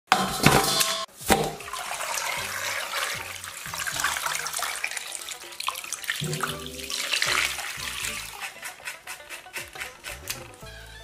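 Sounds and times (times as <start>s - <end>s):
water running and splashing: 1.1s - 10.6s.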